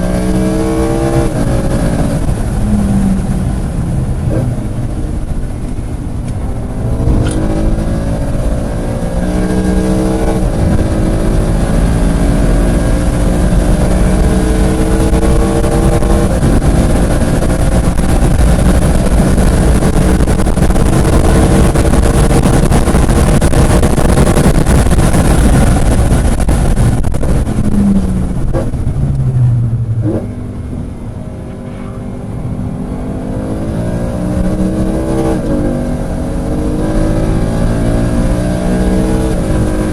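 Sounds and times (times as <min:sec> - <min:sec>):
car engine revving through gears: 0:00.0 - 0:03.6, 0:06.3 - 0:39.9.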